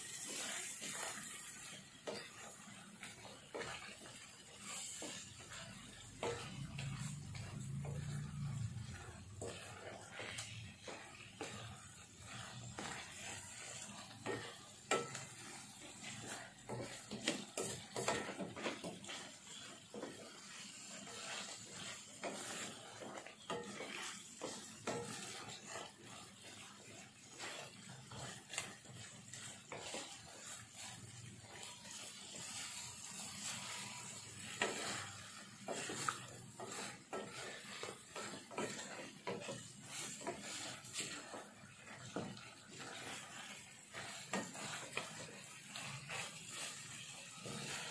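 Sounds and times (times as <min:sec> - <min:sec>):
paste sizzling in pan: 0:00.0 - 0:47.9
wooden spatula scraping pan: 0:00.0 - 0:47.9.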